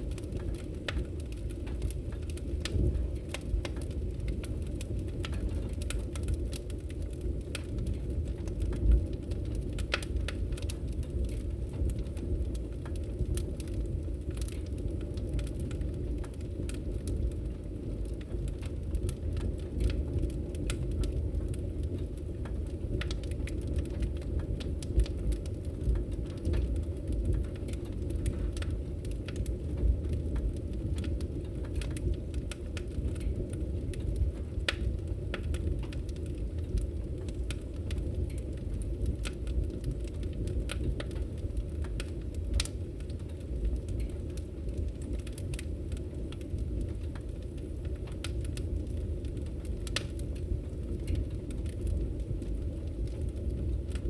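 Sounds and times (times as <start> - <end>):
burning wood rumble: 0.0 - 54.0
fire pops and snaps: 0.0 - 54.0.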